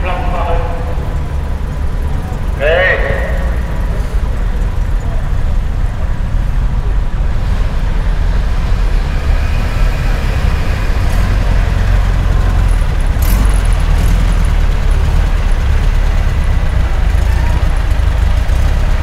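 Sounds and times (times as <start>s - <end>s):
vehicle engines rumbling past: 0.0s - 19.0s.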